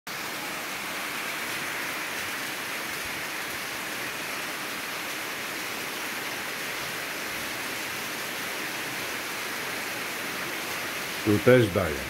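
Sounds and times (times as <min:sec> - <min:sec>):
heavy rain: 0:00.1 - 0:12.0.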